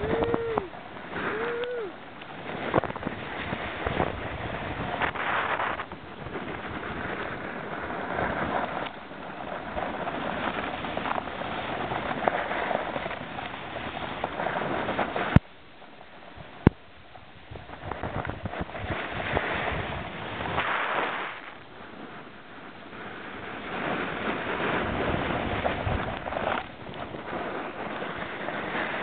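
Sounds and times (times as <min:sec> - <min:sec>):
snow hissing under snowboard: 0:00.0 - 0:15.4, 0:17.5 - 0:29.0
wind rushing over microphone: 0:00.0 - 0:29.0.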